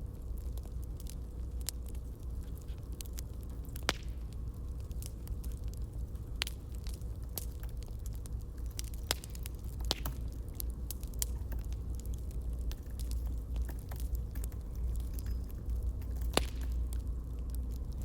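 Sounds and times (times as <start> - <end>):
campfire crackling and popping: 0.0 - 18.0
low steady rumble of fire: 0.0 - 18.0.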